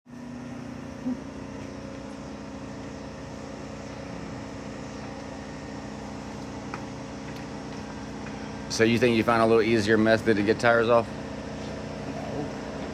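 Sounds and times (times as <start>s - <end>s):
steady mechanical hum: 0.1s - 12.9s.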